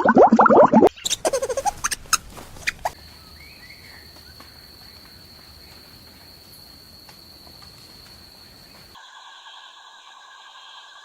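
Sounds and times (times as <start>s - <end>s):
cricket trill: 0.9s - 11.0s.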